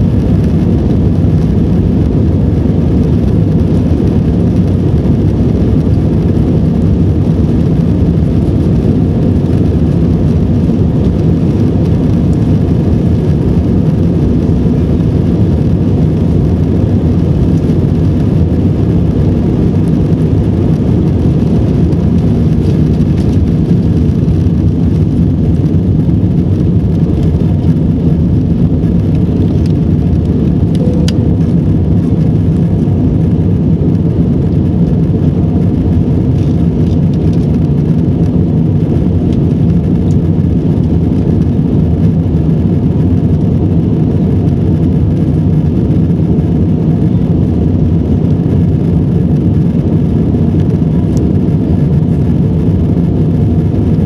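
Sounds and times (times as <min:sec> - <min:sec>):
jet engines roaring in cabin: 0:00.0 - 0:54.0.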